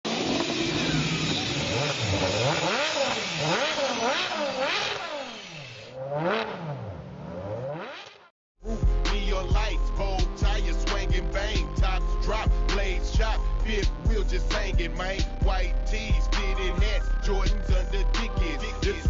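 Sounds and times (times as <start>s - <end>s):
car engine revving: 0.1s - 19.0s.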